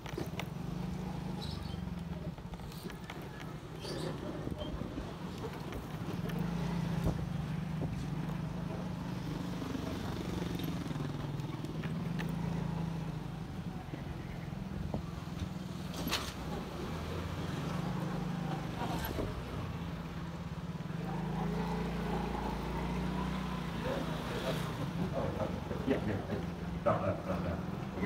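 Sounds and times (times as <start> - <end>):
car engine hum passing: 0.0 - 28.0
motor scooters: 0.0 - 28.0.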